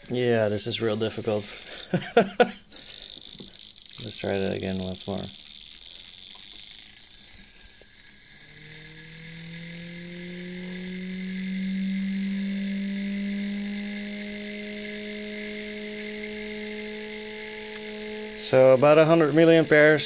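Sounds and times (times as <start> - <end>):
spinning top whirring hum: 0.0 - 20.0.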